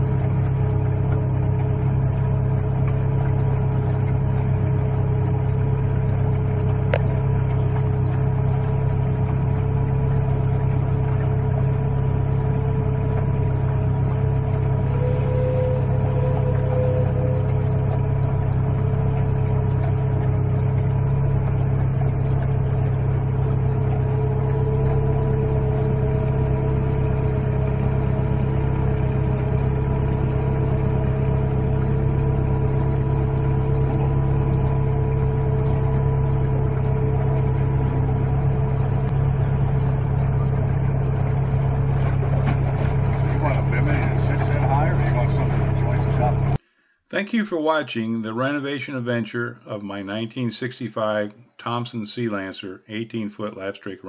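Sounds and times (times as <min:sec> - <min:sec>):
boat engine droning: 0:00.0 - 0:46.6.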